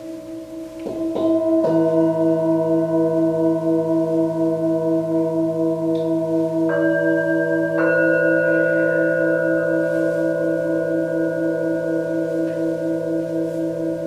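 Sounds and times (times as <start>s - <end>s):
singing bowl struck: 0.0s - 14.0s
singing bowls ringing: 0.0s - 14.0s.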